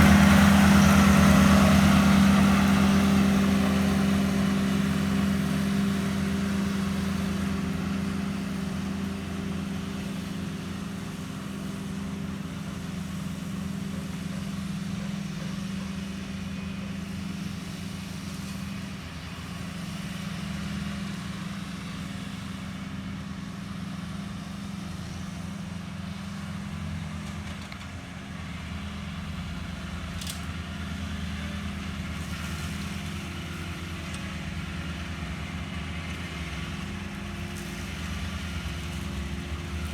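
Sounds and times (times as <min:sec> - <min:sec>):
riding mower engine humming: 0:00.0 - 0:39.9.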